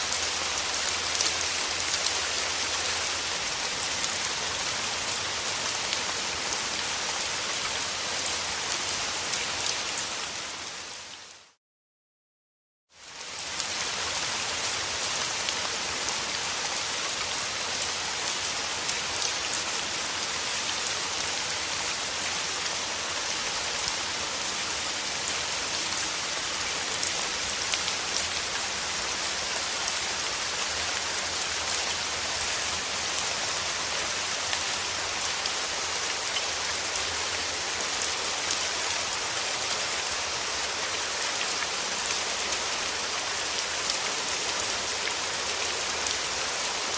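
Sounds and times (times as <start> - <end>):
steady rain falling: 0.0 - 11.6, 12.9 - 46.9.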